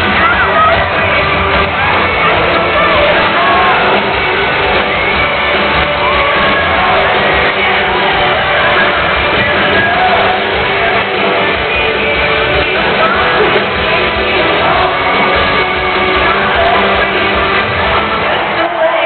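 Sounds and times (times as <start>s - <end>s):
drums: 0.0s - 19.0s
electric guitars: 0.0s - 19.0s
lead singing: 0.0s - 19.0s.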